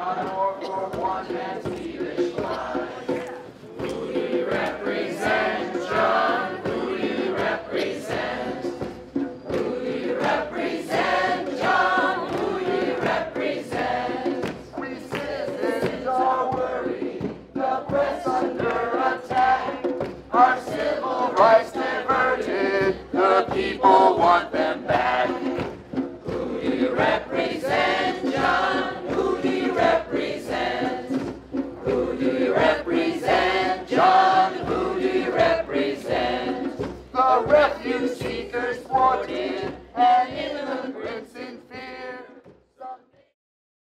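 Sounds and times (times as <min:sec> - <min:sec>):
many voices singing together: 0:00.0 - 0:43.3.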